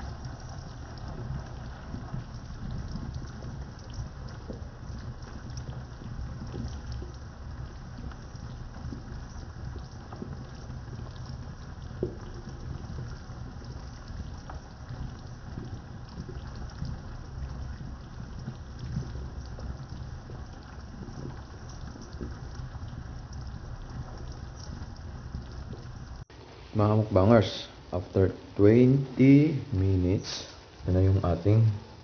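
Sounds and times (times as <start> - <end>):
sauce bubbling in a pot: 0.0 - 32.0.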